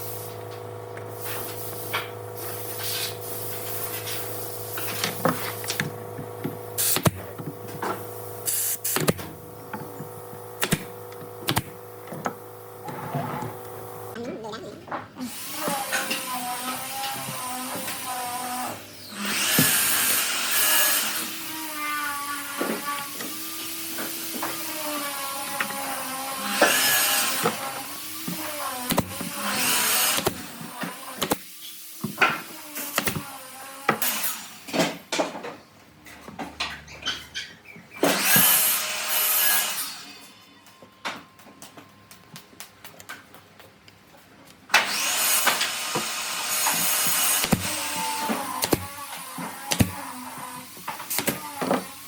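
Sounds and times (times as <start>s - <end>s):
power tool running: 0.0s - 14.2s, 15.3s - 34.8s, 38.0s - 40.2s, 44.7s - 52.0s.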